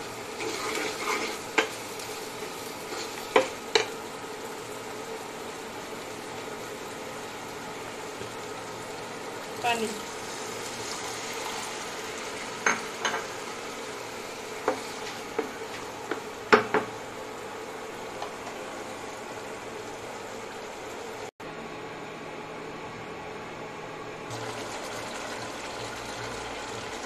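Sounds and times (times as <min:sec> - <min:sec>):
sauce sizzling and bubbling in a pan: 0:00.0 - 0:21.3, 0:24.3 - 0:27.0.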